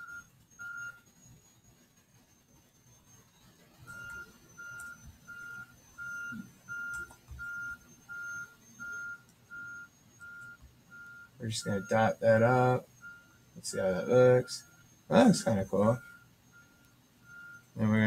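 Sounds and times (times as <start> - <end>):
short electronic beeps: 0.0 - 1.5, 2.8 - 18.0
faint high whine: 0.0 - 18.0.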